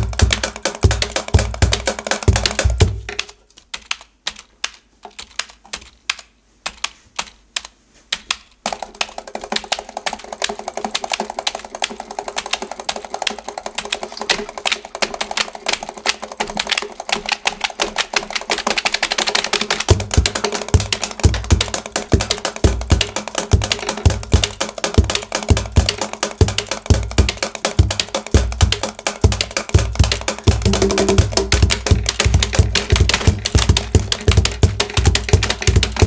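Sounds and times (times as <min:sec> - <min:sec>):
keyboards typing clatter: 0:00.0 - 0:36.0.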